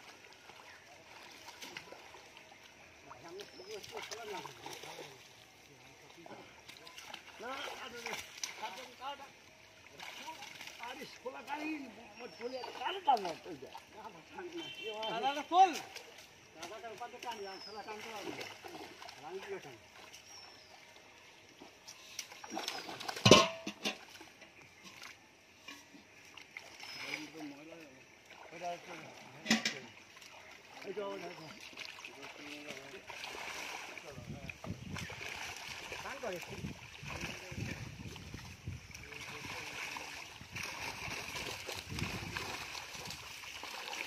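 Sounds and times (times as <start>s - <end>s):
water splashing in pond: 0.0s - 44.0s.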